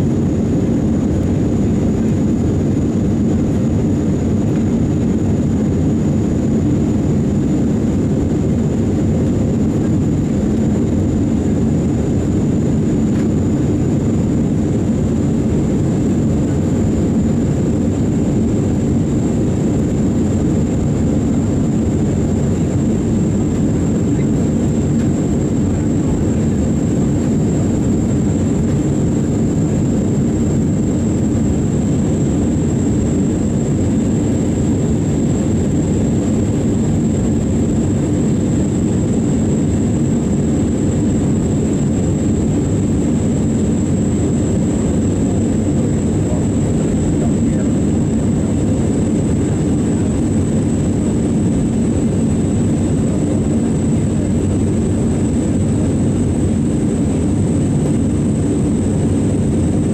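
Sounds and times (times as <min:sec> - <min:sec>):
jet engine and airflow noise: 0:00.0 - 0:59.9.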